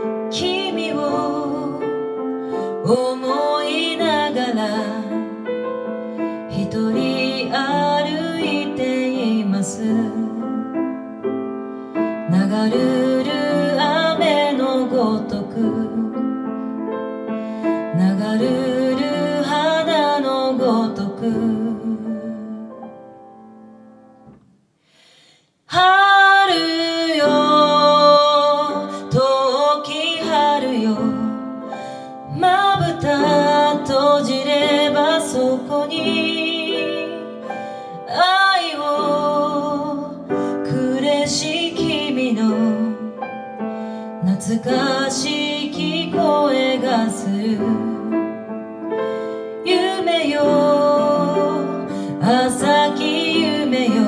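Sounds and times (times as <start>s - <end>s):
woman singing a slow ballad: 0.0s - 5.7s, 6.4s - 10.8s, 12.2s - 16.4s, 17.8s - 22.7s, 25.7s - 43.4s, 44.0s - 54.0s
piano accompaniment: 0.0s - 24.8s, 25.7s - 54.0s.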